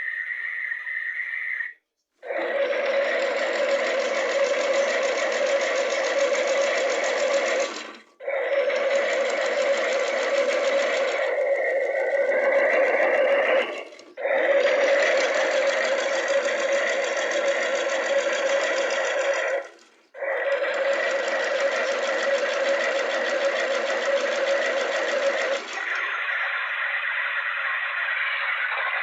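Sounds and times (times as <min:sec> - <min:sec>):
toy washing machine motor whirr: 0:02.2 - 0:29.0.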